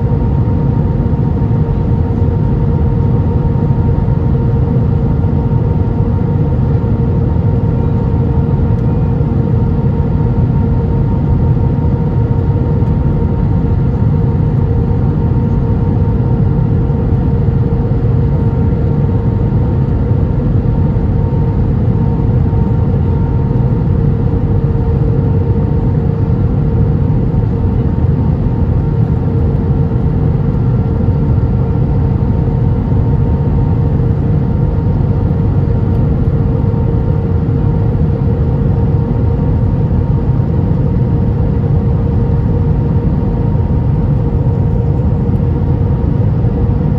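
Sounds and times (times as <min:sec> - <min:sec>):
airliner cabin engine rumble: 0:00.0 - 0:46.9
steady hum: 0:00.0 - 0:46.9.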